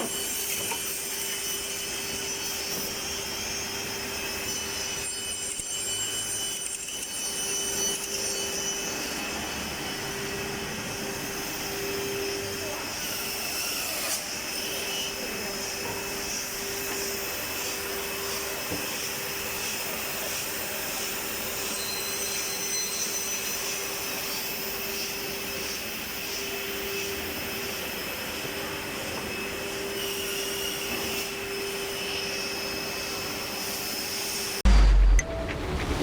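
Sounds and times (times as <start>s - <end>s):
woodworking machine humming and whining: 0.0s - 34.6s.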